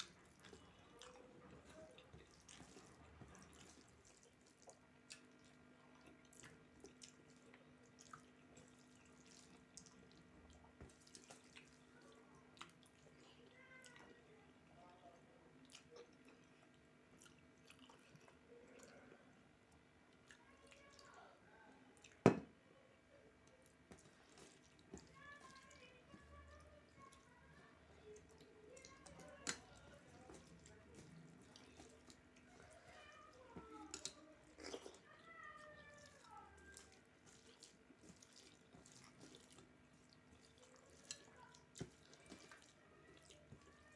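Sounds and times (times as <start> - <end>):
chewing food: 0.0 - 22.2, 23.1 - 43.9
quiet eating sounds: 0.0 - 43.9.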